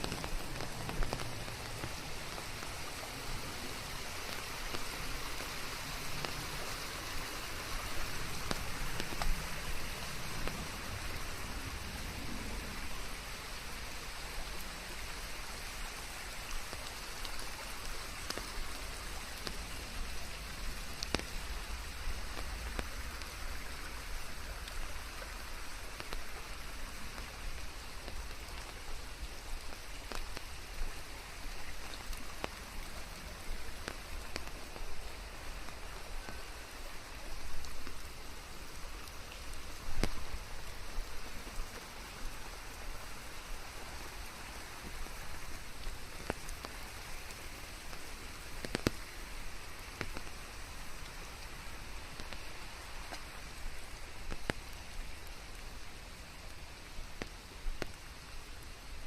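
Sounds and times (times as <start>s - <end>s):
raindrops tapping close by: 0.0s - 59.0s
steady rain hiss: 0.0s - 59.0s.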